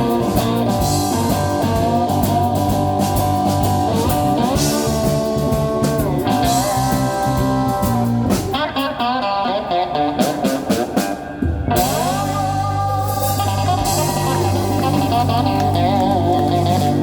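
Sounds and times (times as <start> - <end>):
picked guitar notes: 0.0 - 17.0
slide guitar blues playing: 0.0 - 17.0.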